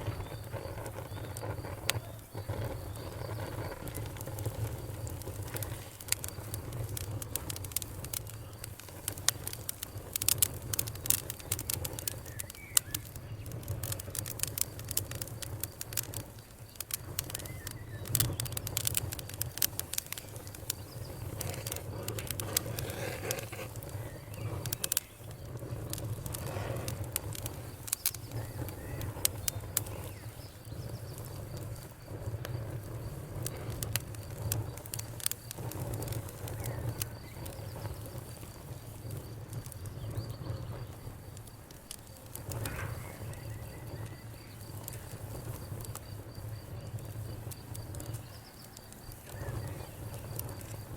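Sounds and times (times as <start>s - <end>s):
low rumble of burning fire: 0.0s - 50.9s
pops and snaps of fire: 0.0s - 50.9s
wood fire crackling: 0.0s - 50.9s.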